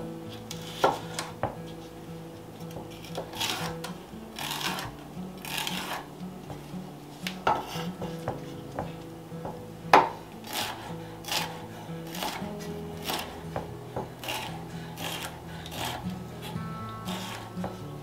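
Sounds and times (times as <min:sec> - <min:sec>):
quiet background music: 0:00.0 - 0:18.0
knife scraping cutting board: 0:00.3 - 0:02.0, 0:02.7 - 0:06.6, 0:07.2 - 0:08.7, 0:09.9 - 0:17.8.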